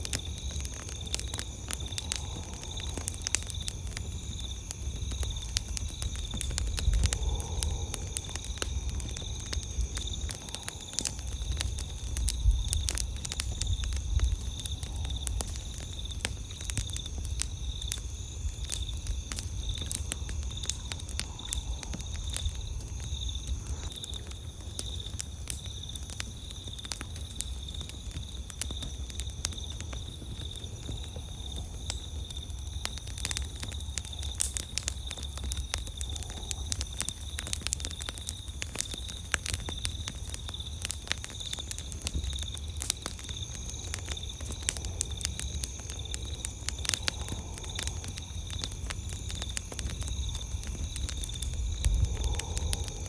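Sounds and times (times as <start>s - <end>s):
campfire crackling and popping: 0.0s - 53.0s
night insects trilling: 0.0s - 53.0s.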